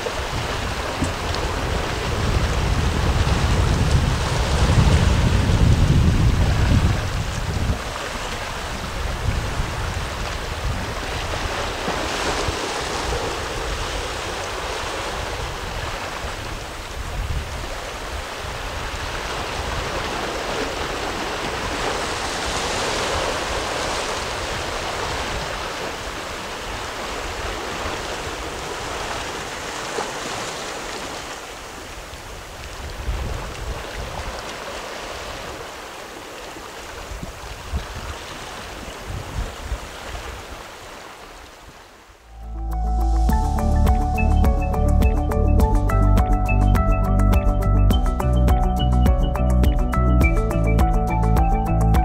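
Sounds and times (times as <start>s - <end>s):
surf washing against rocks: 0.0s - 42.3s
wind rumbling on microphone: 0.0s - 46.5s.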